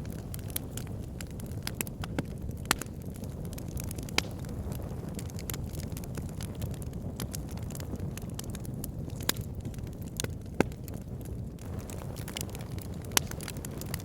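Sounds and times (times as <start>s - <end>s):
fire rumbling: 0.0s - 14.0s
logs crackling and popping: 0.0s - 14.0s.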